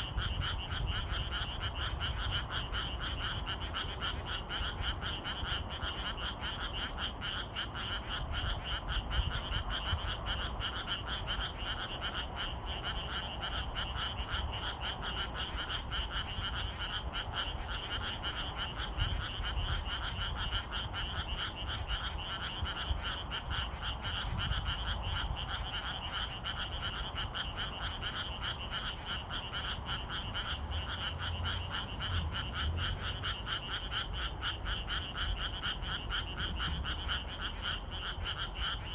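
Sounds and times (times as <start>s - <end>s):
frogs croaking: 0.0s - 38.9s.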